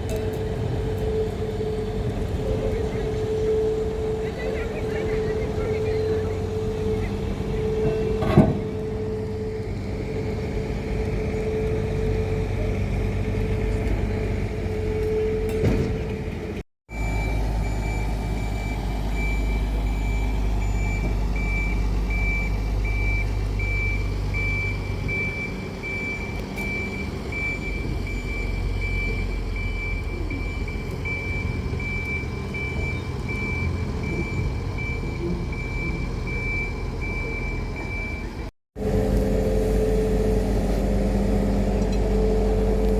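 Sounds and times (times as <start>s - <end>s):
low hum of vehicle motors: 0.0s - 42.9s.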